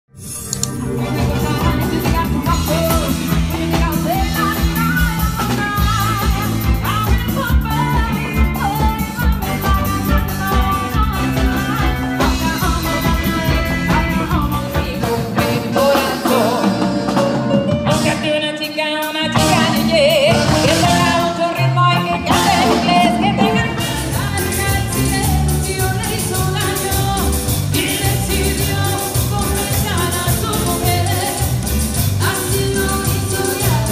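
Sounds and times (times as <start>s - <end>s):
live band playing dance beat: 0.2s - 33.9s
woman singing lead: 0.2s - 33.9s.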